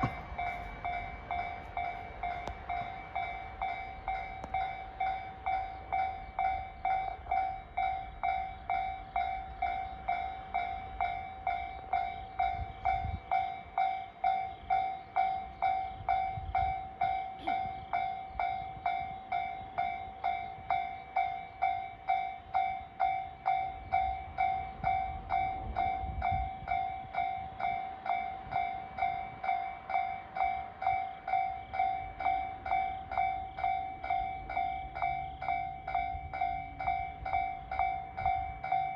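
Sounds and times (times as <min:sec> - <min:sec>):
freight train rumble: 0:00.0 - 0:38.9
level-crossing bell dings: 0:00.0 - 0:38.9.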